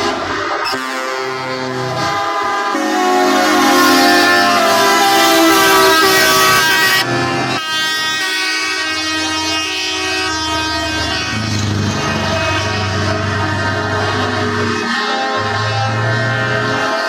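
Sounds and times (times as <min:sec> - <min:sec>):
truck air horn chords: 0:00.0 - 0:17.0.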